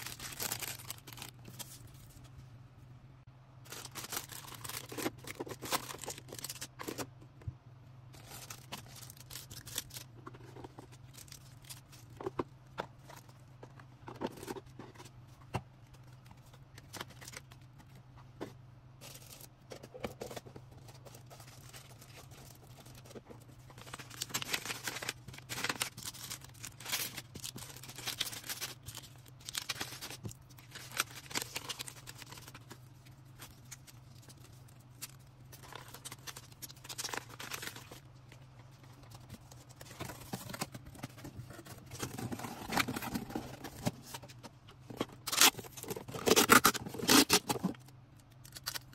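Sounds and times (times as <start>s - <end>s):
packaging crinkling and rustling: 0.0s - 2.3s, 3.7s - 7.2s, 8.2s - 15.1s, 15.9s - 18.0s, 19.0s - 47.9s
steady low hum: 0.0s - 48.9s.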